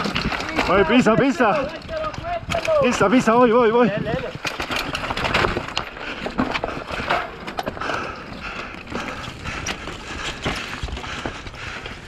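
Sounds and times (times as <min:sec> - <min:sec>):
bike knocking and rattling on rocks: 0:00.0 - 0:12.0.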